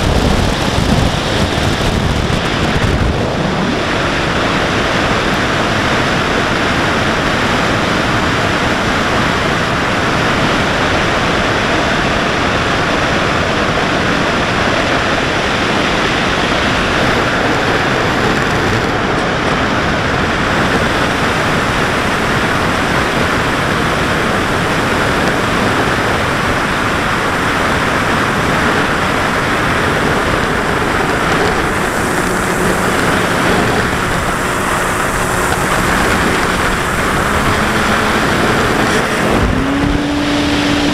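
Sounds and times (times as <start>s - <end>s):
model plane motor and propeller: 0.0s - 40.9s
wind rushing on microphone: 0.0s - 40.9s.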